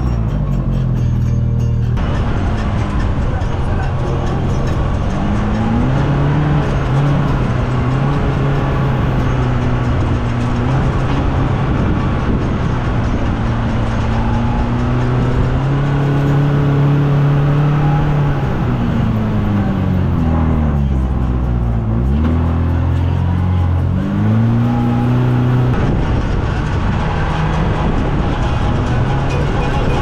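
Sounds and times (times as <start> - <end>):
wind and driving noise: 0.0 - 30.0
engine revving under throttle: 2.0 - 30.0.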